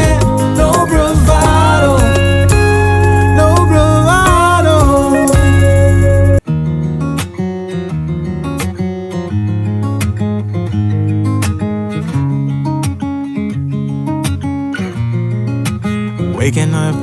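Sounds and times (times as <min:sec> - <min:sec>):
strummed acoustic guitar music: 0:00.0 - 0:17.0.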